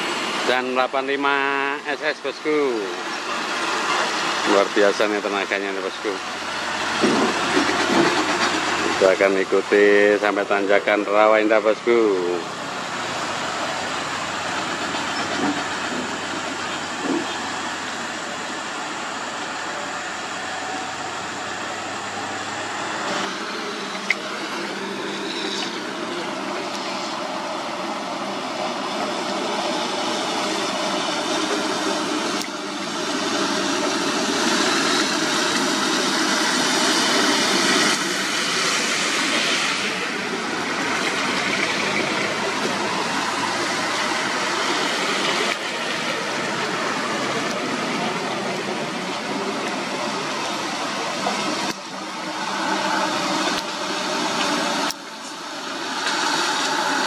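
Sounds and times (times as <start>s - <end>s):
truck and car engines: 0.0s - 57.0s
tyres on wet road: 0.0s - 57.0s.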